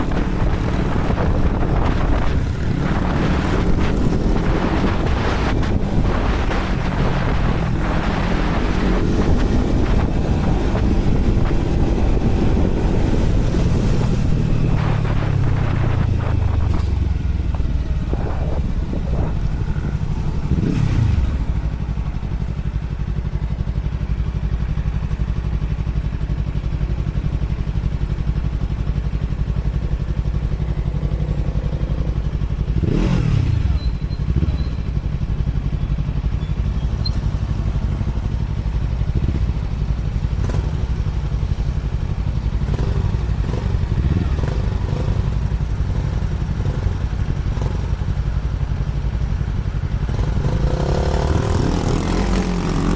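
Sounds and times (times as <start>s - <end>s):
motorcycle engine idling: 0.0s - 33.2s, 33.8s - 52.9s.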